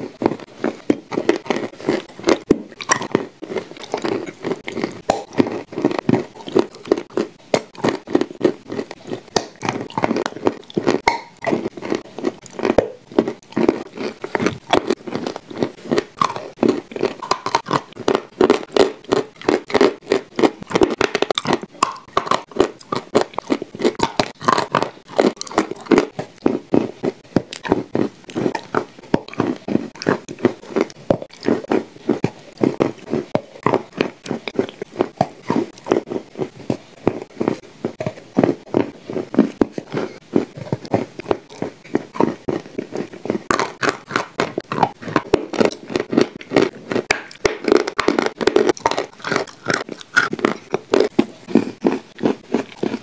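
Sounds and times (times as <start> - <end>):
chewing and crunching cookies: 0.0 - 53.0.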